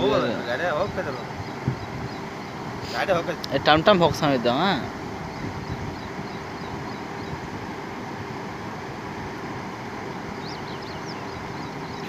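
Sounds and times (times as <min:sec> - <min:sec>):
floodwater rushing over road: 0:00.0 - 0:12.0.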